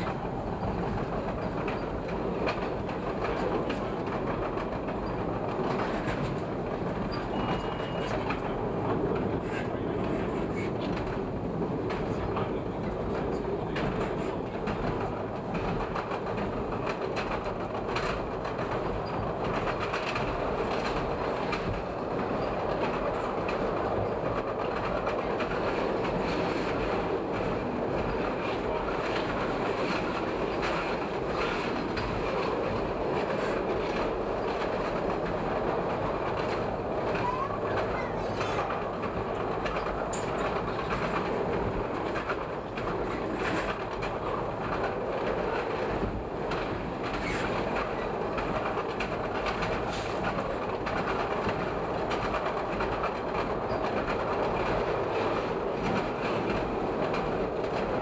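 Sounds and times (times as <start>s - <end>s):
train wheel and rail noise: 0.0s - 58.0s
wheels clicking over rail joints: 0.0s - 58.0s.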